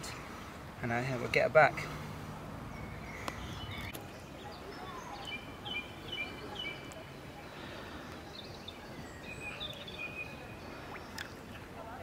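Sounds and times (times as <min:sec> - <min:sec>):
outdoor background hiss: 0:00.0 - 0:12.0
small birds chirping: 0:00.1 - 0:12.0.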